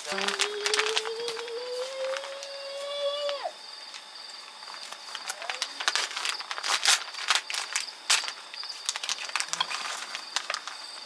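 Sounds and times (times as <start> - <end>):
crickets chirping: 0.0 - 11.0
plastic bag crinkling: 0.0 - 11.0.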